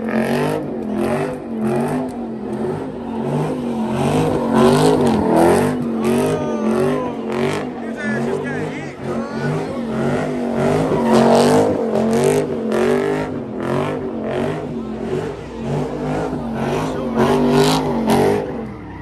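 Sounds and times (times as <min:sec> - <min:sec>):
car engine revving hard: 0:00.0 - 0:18.9.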